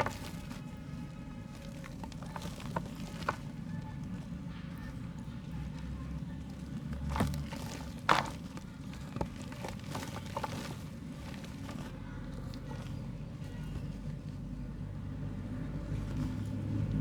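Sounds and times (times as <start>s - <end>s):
dried mud crumbling: 0.0s - 17.0s.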